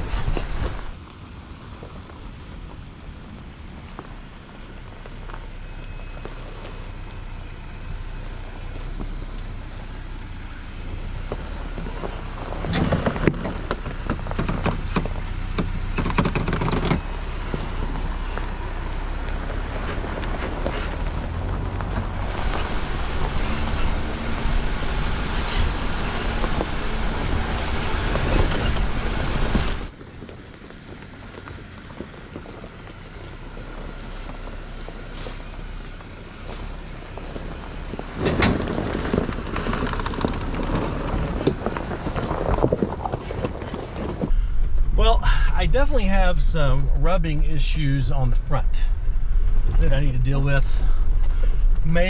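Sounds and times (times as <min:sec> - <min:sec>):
wind noise: 0:00.0 - 0:05.1, 0:10.8 - 0:35.3, 0:36.9 - 0:52.0
vehicle rumbling on dirt trail: 0:00.0 - 0:52.0.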